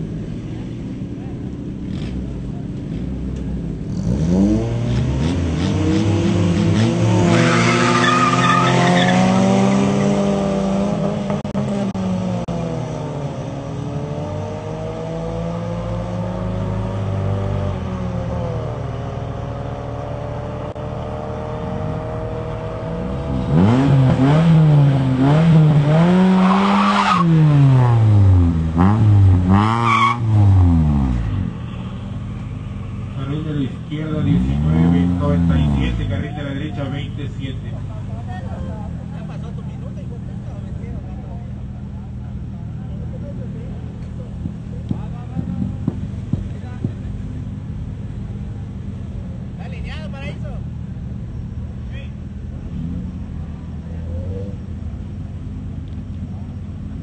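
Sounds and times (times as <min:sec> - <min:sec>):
drag racing car engines revving: 0:00.0 - 0:57.0.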